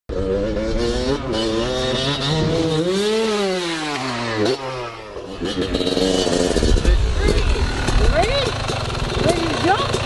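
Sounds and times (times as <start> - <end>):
vehicle engine revving: 0.1 - 10.0.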